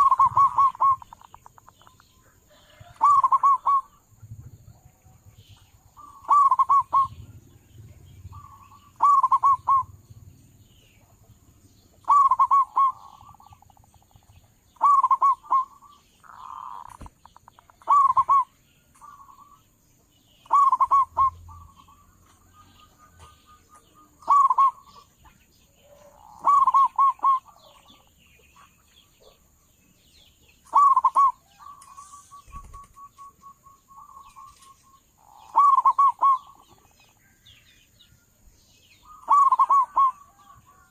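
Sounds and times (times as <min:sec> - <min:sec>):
dove cooing: 0:00.0 - 0:05.3, 0:05.9 - 0:11.4, 0:12.0 - 0:14.2, 0:14.8 - 0:19.6, 0:20.4 - 0:29.4, 0:30.6 - 0:37.0, 0:39.0 - 0:40.9.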